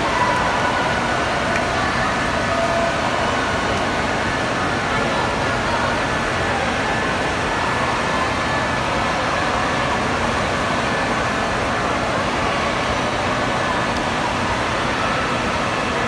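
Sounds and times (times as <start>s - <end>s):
din of swimmers' voices: 0.0s - 16.0s
water rushing and sloshing: 0.0s - 16.0s.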